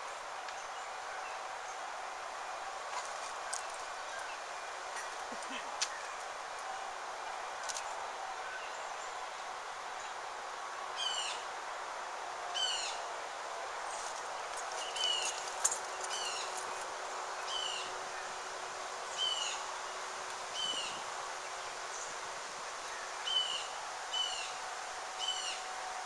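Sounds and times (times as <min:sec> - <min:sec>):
background hiss: 0:00.0 - 0:26.0
songbird singing: 0:00.4 - 0:11.9, 0:12.5 - 0:13.2, 0:13.8 - 0:25.8.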